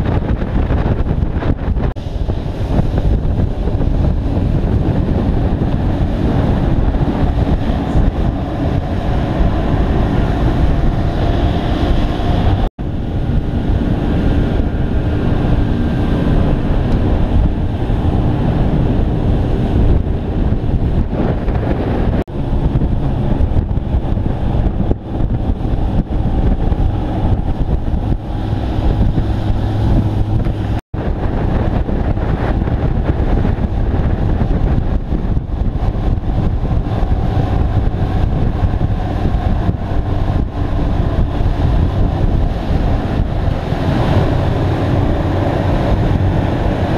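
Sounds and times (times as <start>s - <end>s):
outboard motors droning: 0.0s - 46.9s
water rushing past boat: 0.0s - 46.9s
wind buffeting microphone: 0.0s - 46.9s.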